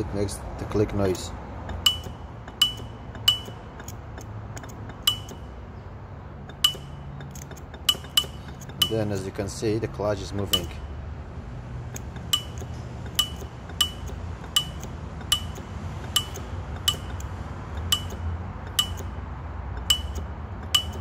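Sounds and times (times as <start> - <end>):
sharp metallic clutch clicks: 0.7 - 11.0, 11.8 - 21.0.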